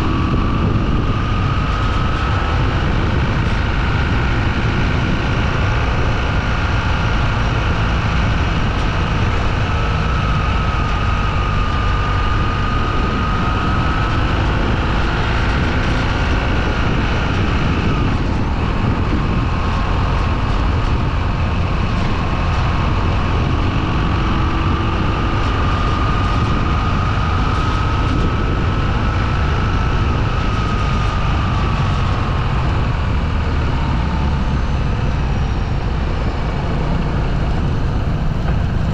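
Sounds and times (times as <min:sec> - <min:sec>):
faint wavering whine: 0:00.0 - 0:38.9
motorcycle engine running: 0:00.0 - 0:38.9
wind on microphone: 0:00.0 - 0:38.9.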